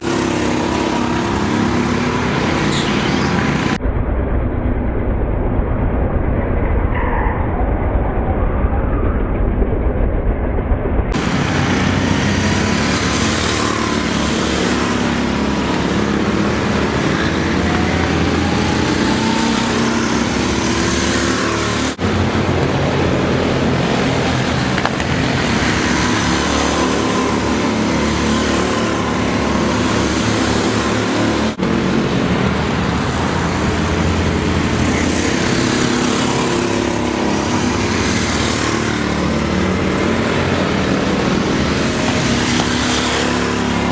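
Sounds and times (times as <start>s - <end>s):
go-kart engines racing: 0.0s - 3.8s, 11.1s - 43.9s
steady rush of noise: 0.0s - 43.9s.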